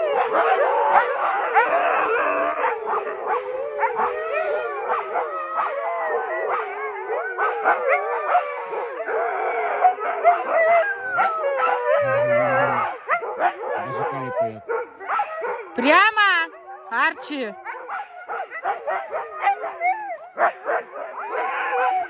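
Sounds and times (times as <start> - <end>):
huskies howling and yelping: 0.0 - 22.0.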